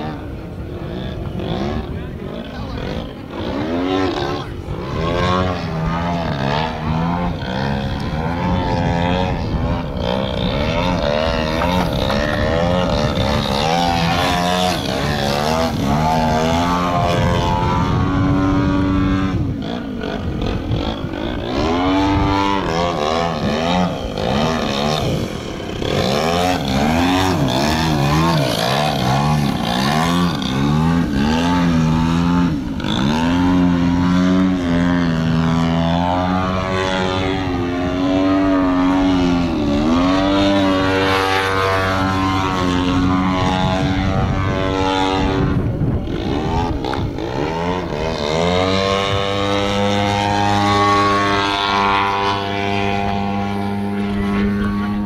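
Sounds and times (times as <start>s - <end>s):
model plane engine and propeller: 0.0s - 55.0s.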